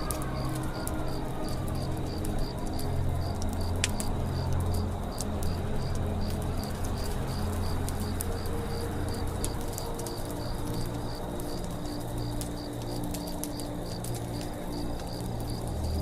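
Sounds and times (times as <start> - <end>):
campfire crackling and popping: 0.0 - 16.0
cricket chirping: 0.0 - 16.0.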